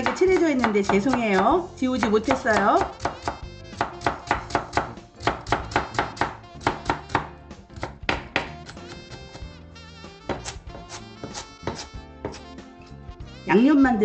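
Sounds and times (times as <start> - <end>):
knife chopping on wooden board: 0.0 - 1.4, 2.0 - 9.5, 10.2 - 12.5
background music: 0.0 - 14.0.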